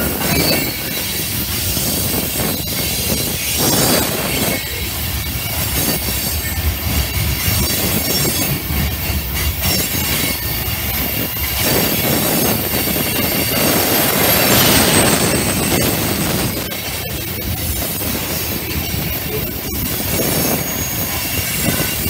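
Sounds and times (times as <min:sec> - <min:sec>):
train wheels rumbling on rail: 0:00.0 - 0:22.0
wheels squealing on curve: 0:00.0 - 0:22.0.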